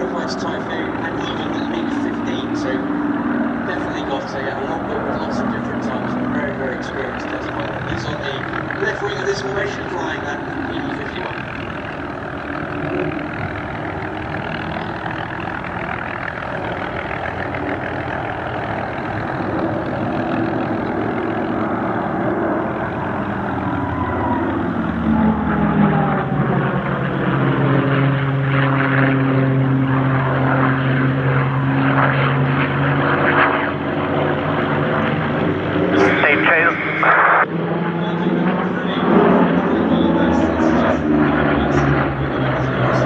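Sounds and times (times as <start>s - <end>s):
propeller aircraft engines droning: 0.0s - 43.0s.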